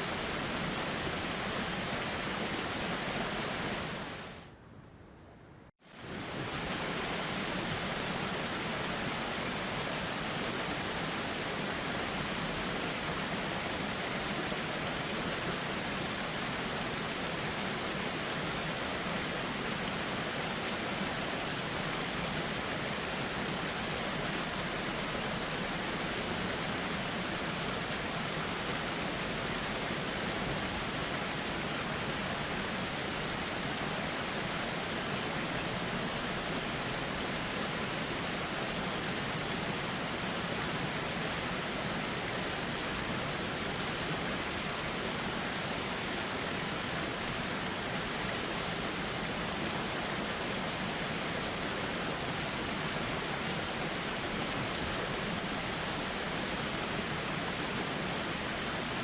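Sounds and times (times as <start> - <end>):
river water flowing: 0.0 - 4.5, 5.8 - 59.0.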